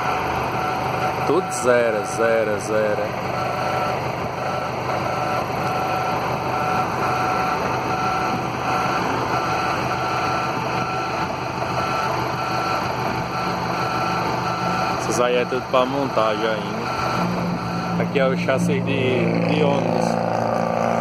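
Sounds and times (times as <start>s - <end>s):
electronic beep: 0.0s - 20.1s
steady vehicle noise: 0.0s - 21.0s.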